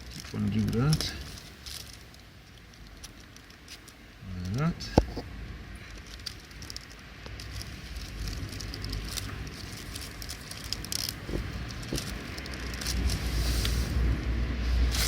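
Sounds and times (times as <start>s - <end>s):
plastic bag crinkling: 0.0s - 4.0s, 5.8s - 15.0s.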